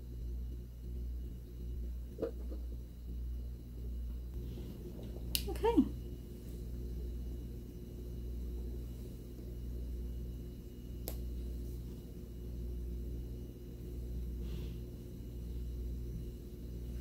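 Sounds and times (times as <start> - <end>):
low pulsing hum: 0.0 - 17.0.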